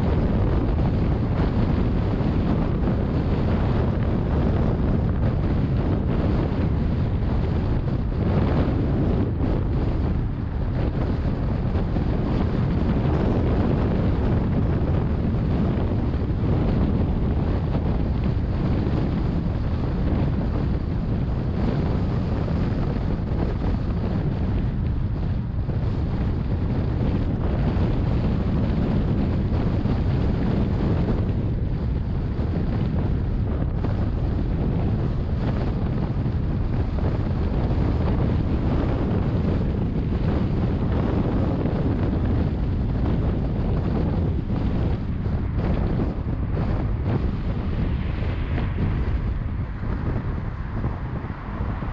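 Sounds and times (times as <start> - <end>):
car wind and road noise: 0.0 - 51.9.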